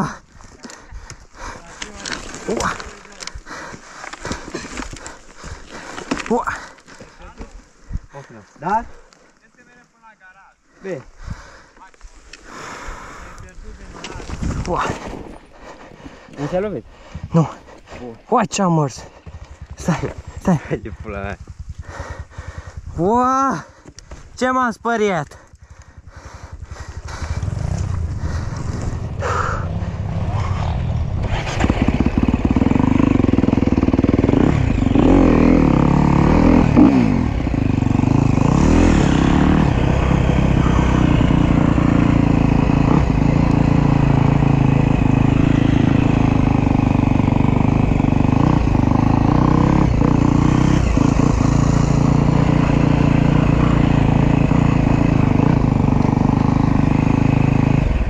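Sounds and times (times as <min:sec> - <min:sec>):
motorcycle engine running: 0:00.0 - 0:08.3, 0:12.5 - 0:58.0.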